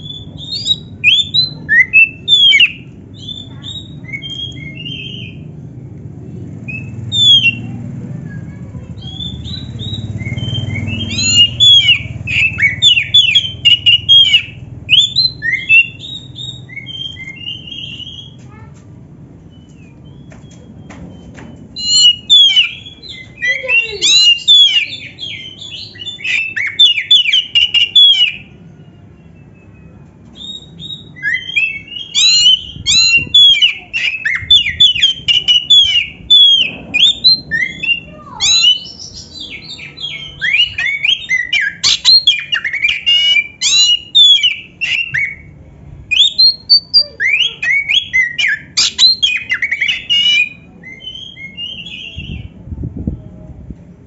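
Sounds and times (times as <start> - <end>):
magpie-robin singing: 0.0 - 5.6, 6.4 - 18.8, 19.4 - 52.6.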